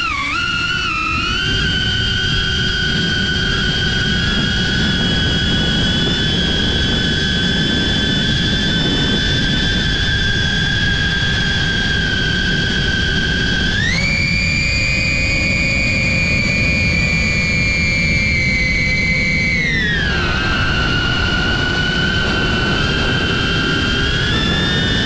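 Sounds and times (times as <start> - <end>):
drone propellers whining: 0.0 - 25.0
strong wind rumbling: 0.0 - 25.0.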